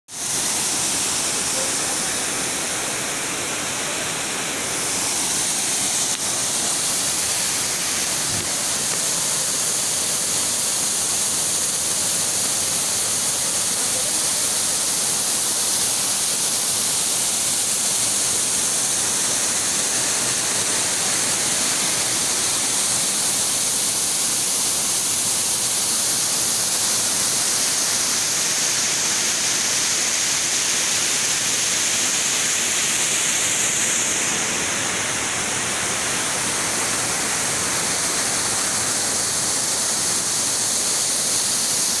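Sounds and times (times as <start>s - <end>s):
waterfall rushing over rocks: 0.1s - 42.0s.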